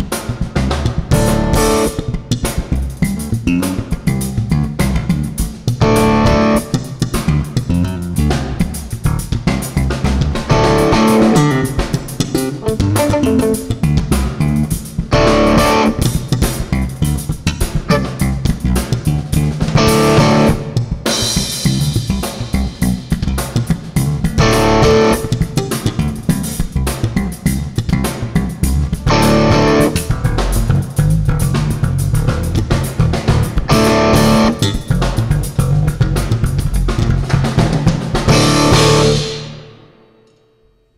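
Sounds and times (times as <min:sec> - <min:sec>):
jazz trio playing: 0:00.0 - 0:39.6
electric bass: 0:00.0 - 0:39.8
drums and cymbals: 0:00.0 - 0:40.2
plucked electric guitar: 0:01.1 - 0:21.4, 0:22.0 - 0:39.8.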